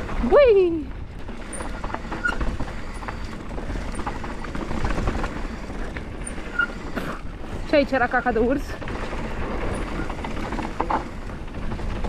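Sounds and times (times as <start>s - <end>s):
bike clattering: 0.0s - 12.0s
bike tyres rolling over dirt: 0.0s - 12.0s.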